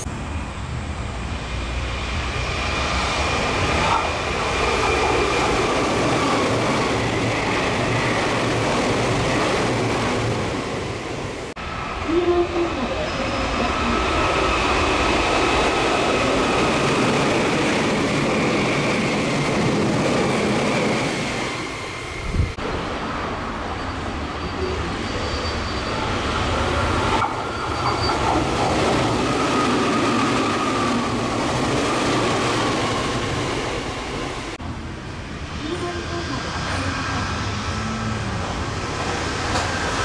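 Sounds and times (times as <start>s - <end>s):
electric trains passing at speed: 0.0s - 40.0s.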